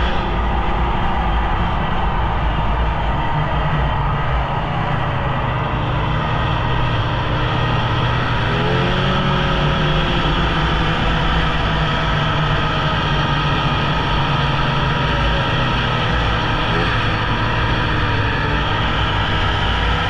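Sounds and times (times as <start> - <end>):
rushing noise: 0.0 - 20.0
snowmobile engine running: 0.0 - 20.0.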